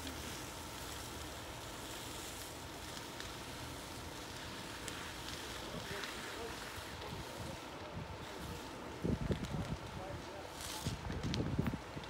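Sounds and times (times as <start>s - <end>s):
water hose rushing: 0.0s - 11.1s
faint cracks: 0.0s - 12.0s.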